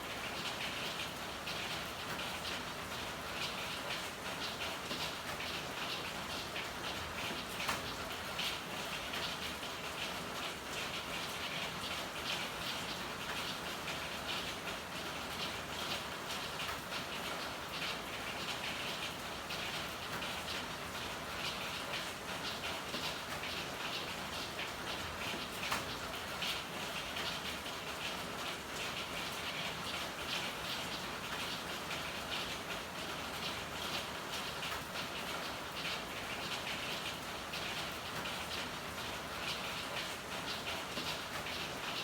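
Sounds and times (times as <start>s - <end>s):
steady rain: 0.0s - 42.0s.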